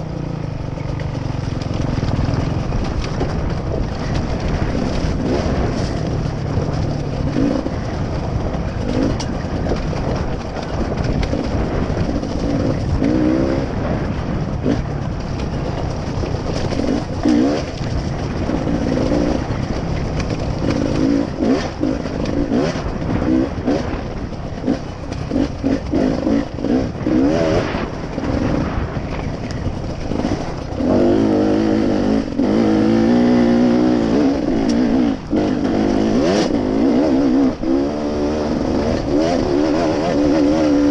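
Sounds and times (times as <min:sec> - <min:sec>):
vehicle engine revving: 0:00.0 - 0:40.9
wind and road noise: 0:00.0 - 0:40.9.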